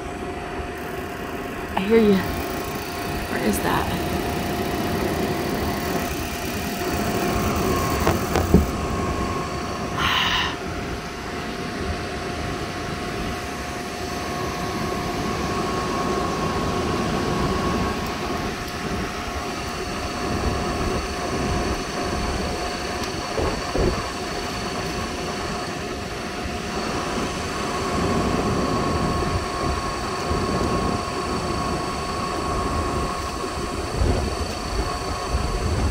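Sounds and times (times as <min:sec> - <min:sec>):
gas furnace rumbling drone: 0:00.0 - 0:35.9.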